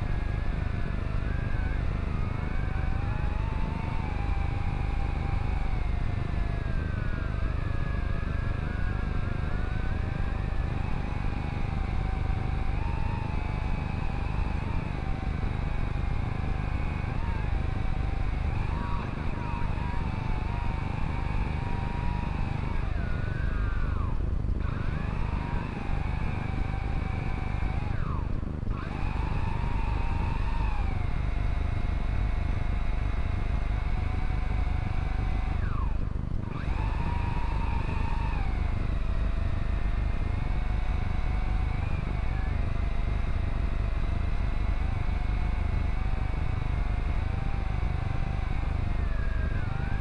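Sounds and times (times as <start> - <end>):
drone propellers whining: 0.0 - 50.0.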